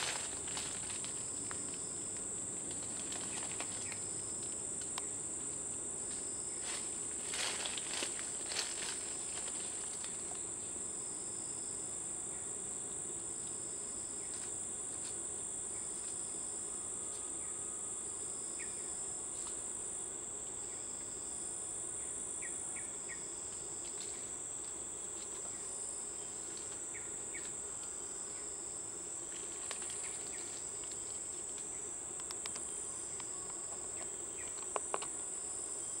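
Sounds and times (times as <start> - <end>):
pulsing insect call: 0.0 - 36.0
high-pitched insect buzz: 6.1 - 36.0.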